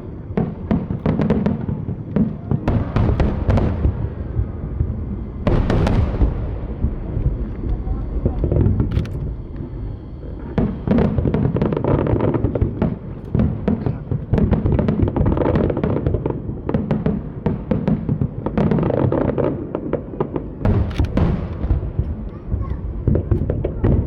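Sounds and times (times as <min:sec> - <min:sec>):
fireworks sharp cracks: 0:00.0 - 0:09.3, 0:10.5 - 0:24.0
fireworks booming: 0:00.0 - 0:24.0.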